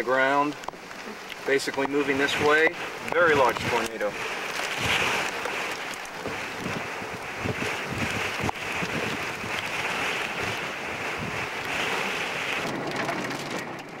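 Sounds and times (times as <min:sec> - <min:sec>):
wind buffeting microphone: 0:00.7 - 0:14.0.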